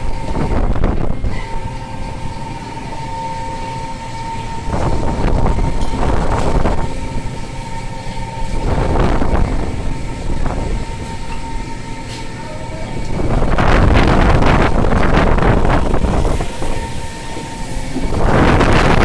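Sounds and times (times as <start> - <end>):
boat machinery rumbling: 0.0 - 19.0
constant machine whine: 0.0 - 19.0.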